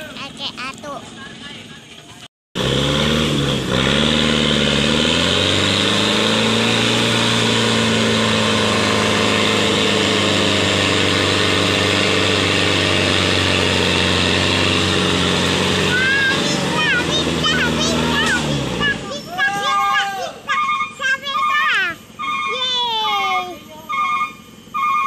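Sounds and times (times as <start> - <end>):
diesel truck engine revving: 0.0 - 25.0.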